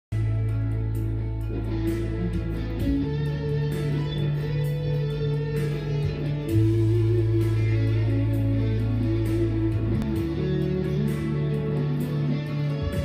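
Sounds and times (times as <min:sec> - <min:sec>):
electric guitar melody: 0:00.1 - 0:13.0
sustained low backing chord: 0:00.1 - 0:13.0.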